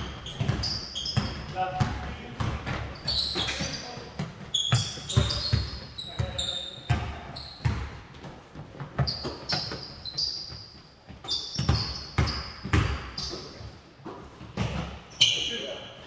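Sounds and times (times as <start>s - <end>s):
basketball bouncing on wooden floor: 0.0s - 13.5s
sneaker squeaks: 0.0s - 16.0s.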